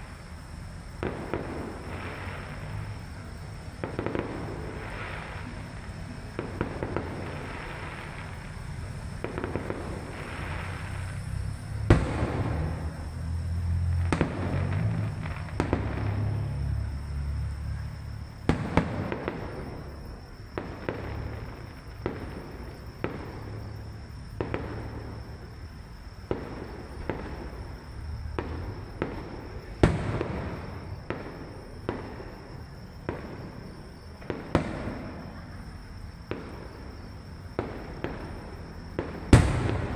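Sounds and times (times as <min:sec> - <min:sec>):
fireworks bangs and booms: 0:00.0 - 0:39.9
fireworks crackling: 0:00.0 - 0:39.9.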